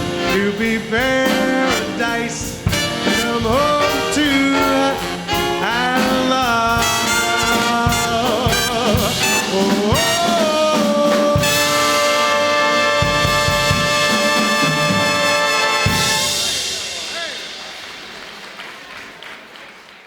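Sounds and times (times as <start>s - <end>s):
drum hits: 0.0s - 18.4s
big band brass playing: 0.0s - 19.3s.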